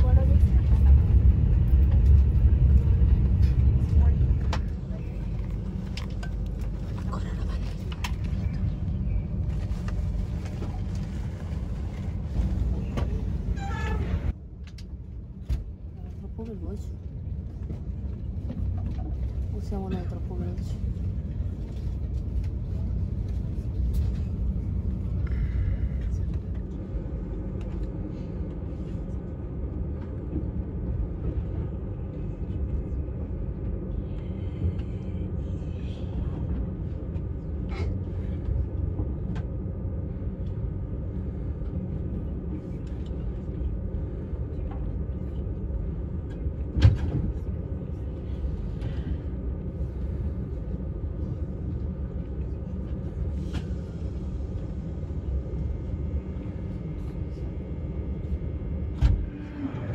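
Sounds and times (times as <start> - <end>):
vehicle interior rumble: 0.0 - 59.9.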